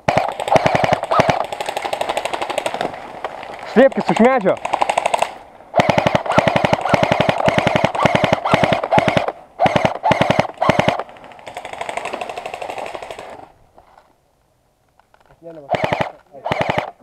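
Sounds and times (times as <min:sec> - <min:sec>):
airsoft guns firing bursts: 0:00.0 - 0:13.4, 0:15.6 - 0:17.0.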